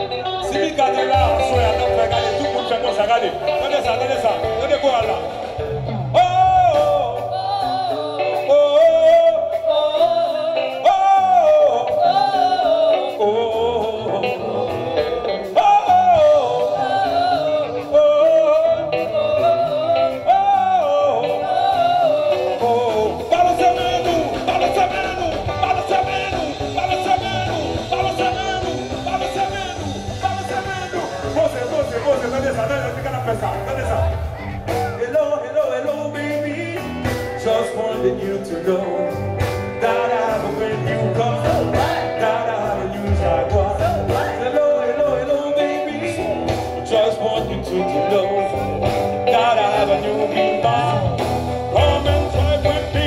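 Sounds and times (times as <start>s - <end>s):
live band playing: 0.0s - 53.0s
melodic lead line: 0.0s - 53.0s.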